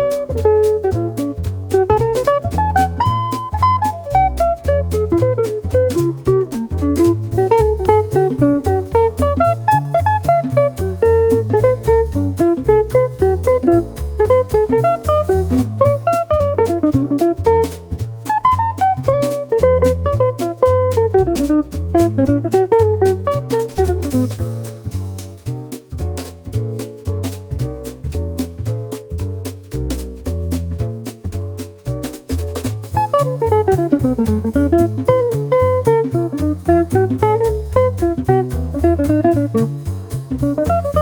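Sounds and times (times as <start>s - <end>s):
plucked guitar melody: 0.0s - 24.7s, 32.8s - 41.0s
bass: 0.0s - 41.0s
drum kit beat: 0.0s - 41.0s
upbeat jazzy music: 0.0s - 41.0s.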